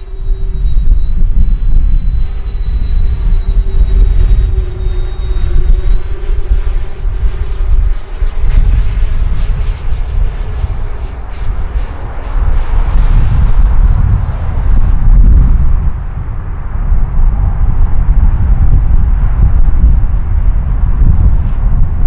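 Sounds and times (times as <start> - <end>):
electric ducted fans whining: 0.0 - 22.0
heavy low rumble: 0.0 - 22.0.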